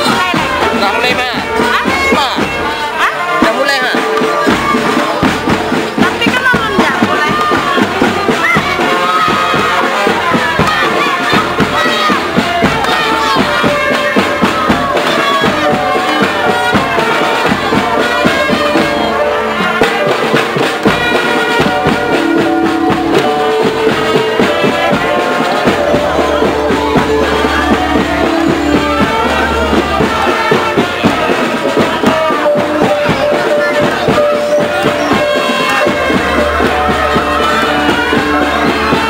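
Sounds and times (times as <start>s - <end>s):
loud music with busy drum beat: 0.0s - 39.0s.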